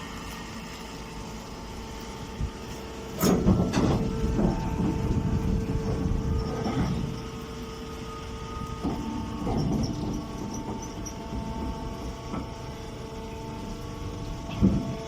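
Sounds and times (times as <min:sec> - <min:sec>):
baling machine humming: 0:00.0 - 0:15.0.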